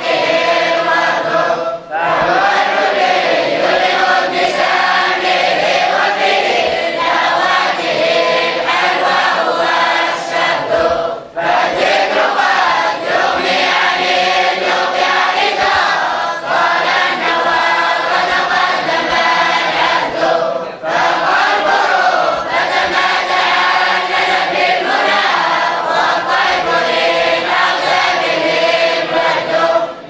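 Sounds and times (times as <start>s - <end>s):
boys and men chanting in unison: 0.0s - 30.0s.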